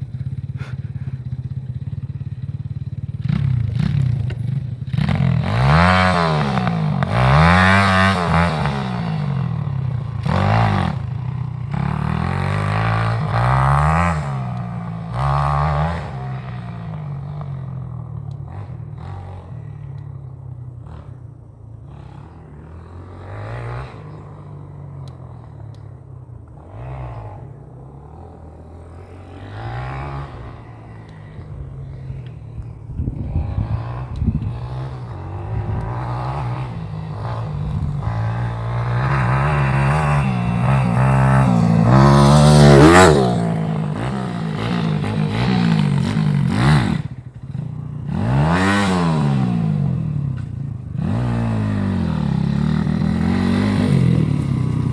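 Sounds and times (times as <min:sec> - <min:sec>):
motorbike engine revving: 0:00.0 - 0:54.9.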